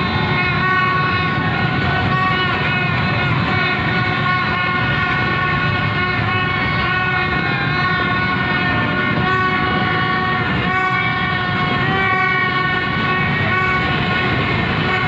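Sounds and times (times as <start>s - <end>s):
crowd and traffic rumble: 0.0s - 15.0s
horns blasting: 0.0s - 15.0s.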